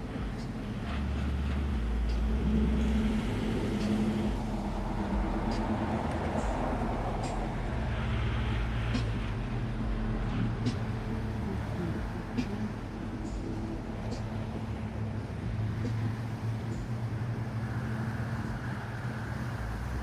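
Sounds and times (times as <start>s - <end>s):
car engine rumbling: 0.0s - 20.0s
low hum: 0.0s - 20.0s.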